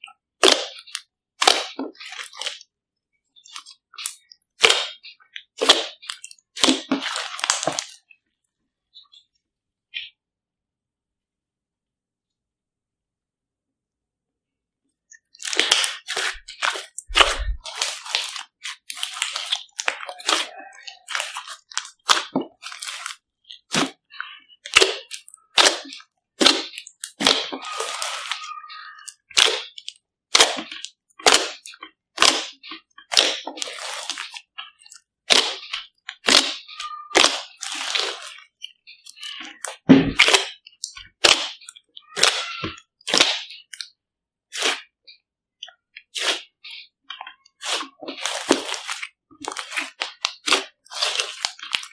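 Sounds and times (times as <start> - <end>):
slime popping and crackling: 0.0 - 2.7, 3.4 - 8.0, 15.3 - 43.9, 44.5 - 44.9, 46.0 - 51.9.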